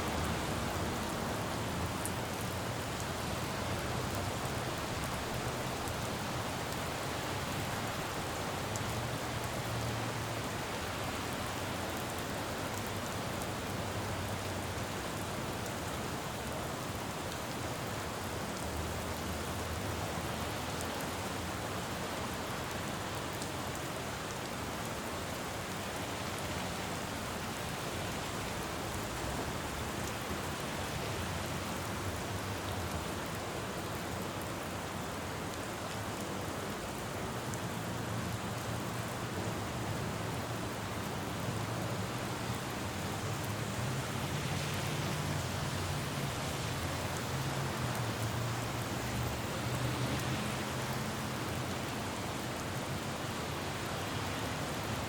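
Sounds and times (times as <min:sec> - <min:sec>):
rain falling on road: 0:00.0 - 0:55.0.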